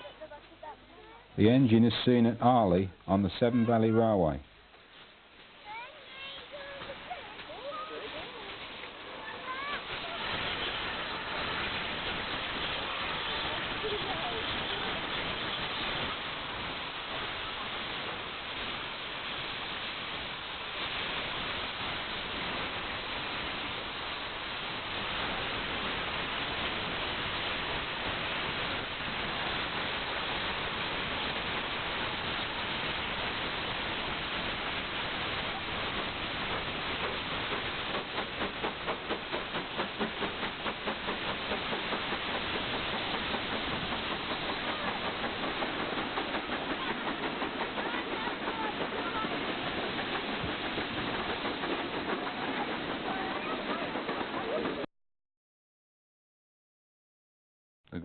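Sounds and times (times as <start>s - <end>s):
steam hissing: 4.6s - 54.9s
steam locomotive chuffing: 5.7s - 54.9s.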